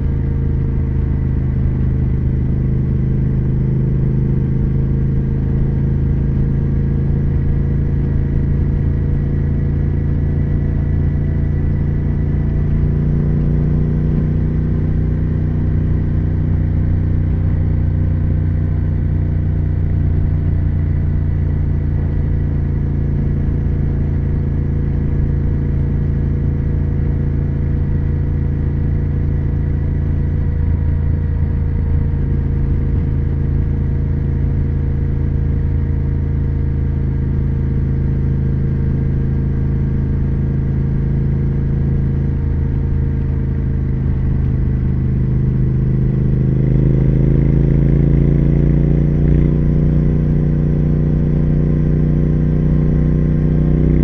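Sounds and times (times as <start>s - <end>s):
motorcycle engine and exhaust running: 0.0s - 54.0s.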